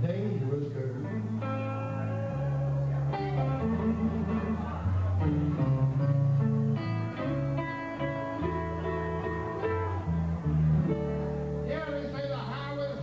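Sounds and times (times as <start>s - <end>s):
electric bass line: 0.0s - 13.0s
electric guitar playing: 0.0s - 13.0s.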